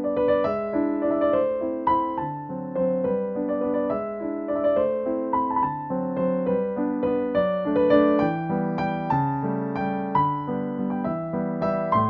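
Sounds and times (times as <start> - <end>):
solo piano waltz: 0.0 - 12.0.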